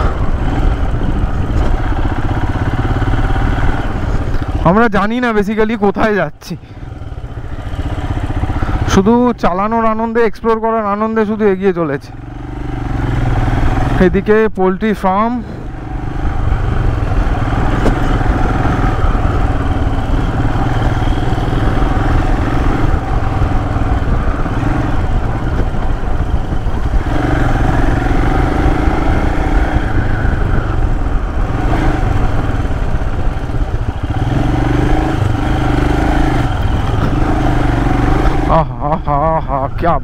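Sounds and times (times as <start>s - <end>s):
motorcycle engine running: 0.0s - 40.0s
road and wind noise: 0.0s - 40.0s.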